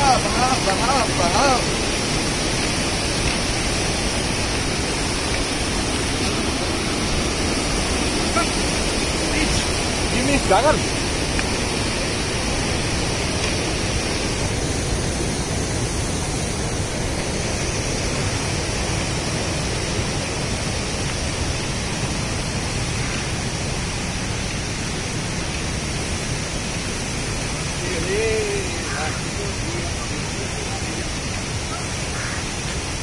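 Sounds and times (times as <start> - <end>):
white-water river rushing: 0.0 - 33.0.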